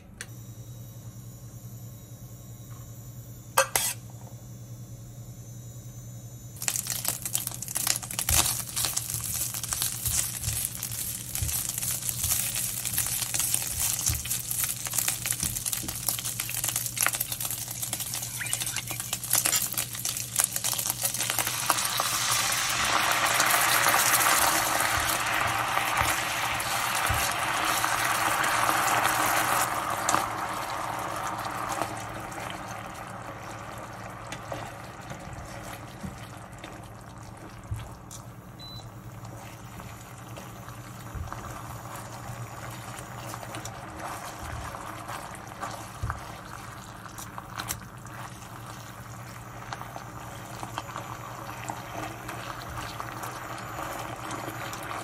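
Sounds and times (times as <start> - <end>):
sauce bubbling hiss in pan: 6.6 - 38.4, 39.0 - 55.0
meat sizzling in hot oil: 6.6 - 38.8, 39.7 - 55.0.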